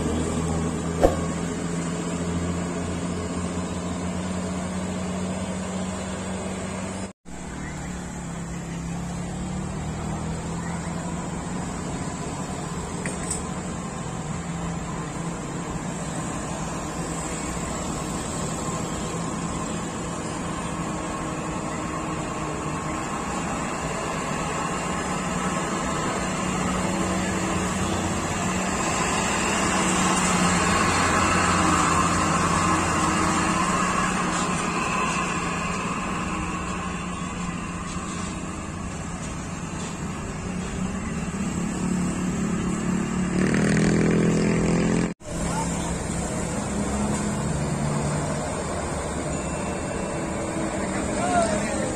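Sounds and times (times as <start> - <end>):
truck diesel engine running: 0.0 - 44.4, 45.1 - 51.9
motorcycle engines passing: 0.1 - 51.9.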